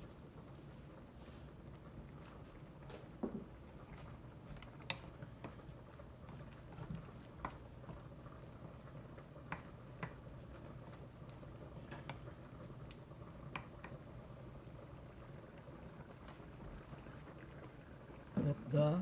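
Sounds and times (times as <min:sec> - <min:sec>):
low steady hum: 0:00.0 - 0:19.0
light clicks and ticks from pan: 0:01.6 - 0:17.8.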